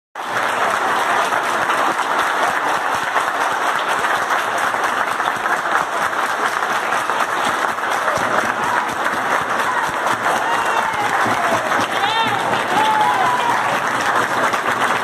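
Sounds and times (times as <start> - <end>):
people clapping: 0.2 - 15.0.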